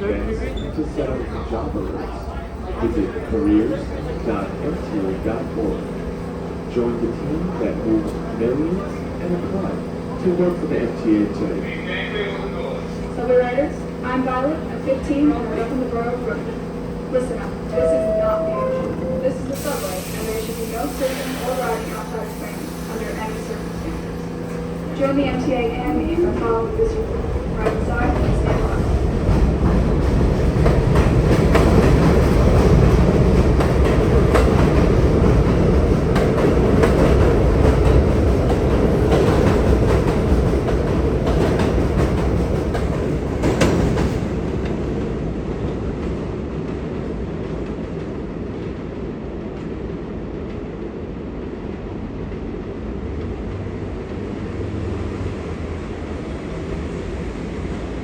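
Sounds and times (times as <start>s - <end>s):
subway train wheels clacking: 0.0s - 58.0s.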